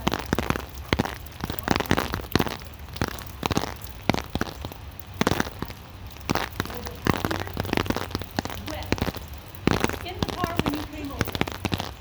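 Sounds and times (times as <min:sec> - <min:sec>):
rain falling: 0:00.0 - 0:12.0
raindrops tapping nearby: 0:00.0 - 0:12.0.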